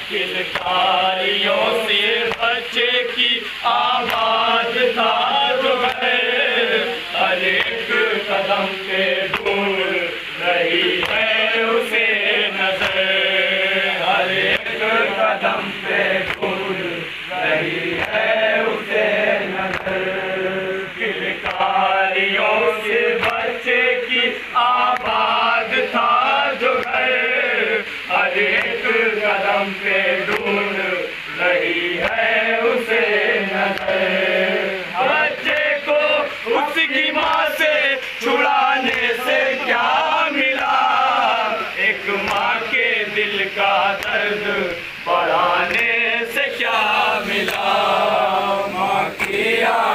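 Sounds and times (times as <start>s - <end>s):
men chanting a lament: 0.0s - 49.9s.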